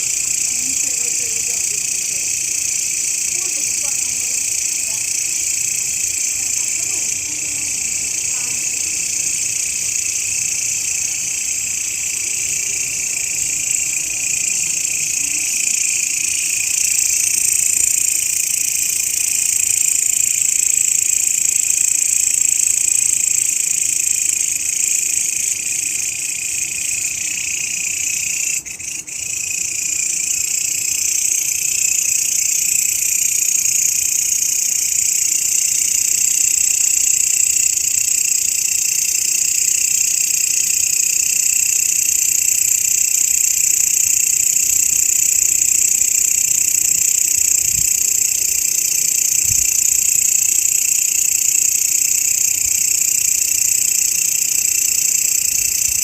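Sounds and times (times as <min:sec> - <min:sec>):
grasshoppers buzzing chorus: 0:00.0 - 0:56.0.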